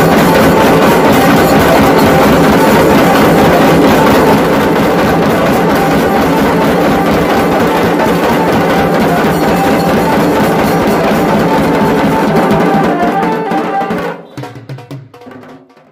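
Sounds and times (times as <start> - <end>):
keyboard melody over loudspeakers: 0.0 - 14.3
drums beaten fast: 0.0 - 15.9.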